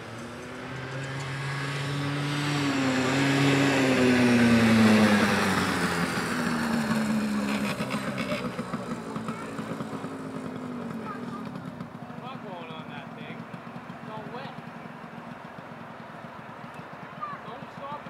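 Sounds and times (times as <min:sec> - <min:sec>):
atv engine passing: 0:00.0 - 0:18.0.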